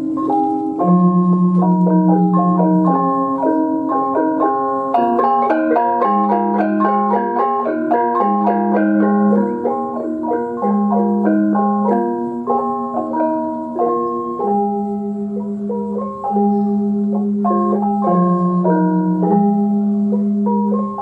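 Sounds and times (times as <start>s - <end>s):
mallet-like melody: 0.0s - 21.0s.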